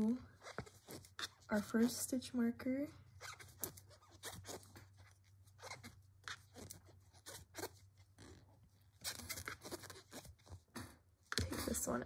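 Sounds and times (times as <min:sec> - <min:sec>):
crochet hook rustling yarn: 0:00.0 - 0:02.4, 0:03.0 - 0:12.0.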